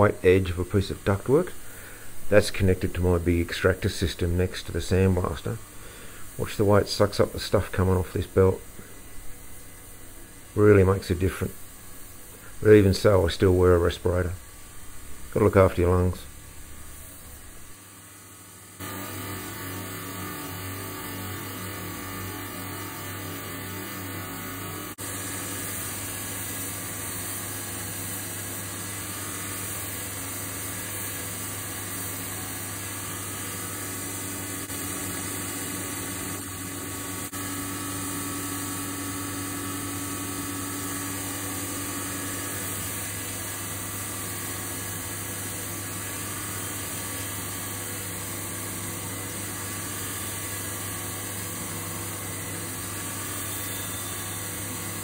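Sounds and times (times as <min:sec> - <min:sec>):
belt sander running: 0:00.0 - 0:55.0
dust extractor drawing air: 0:00.0 - 0:55.0.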